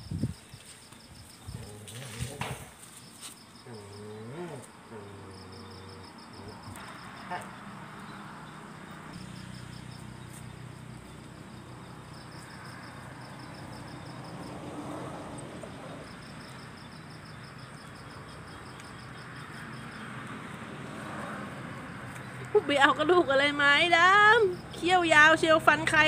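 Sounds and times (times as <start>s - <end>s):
night insects chirping: 0.0s - 26.0s.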